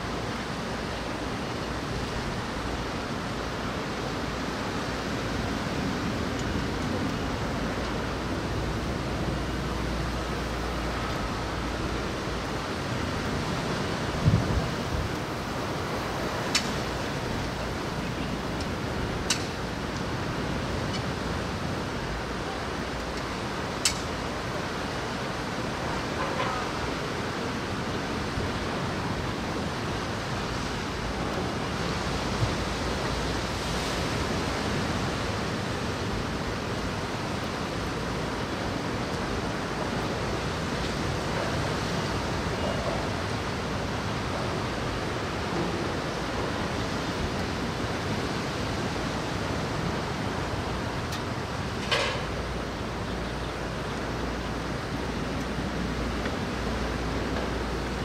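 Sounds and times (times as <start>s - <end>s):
rain: 0.0s - 58.0s.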